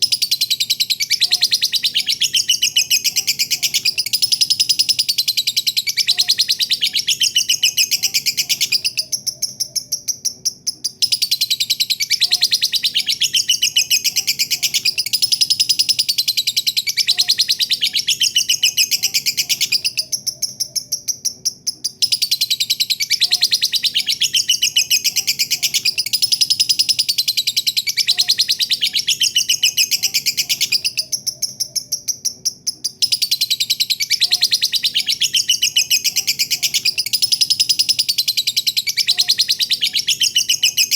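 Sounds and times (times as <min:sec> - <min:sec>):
lovebird chattering trill: 0:00.0 - 0:40.9.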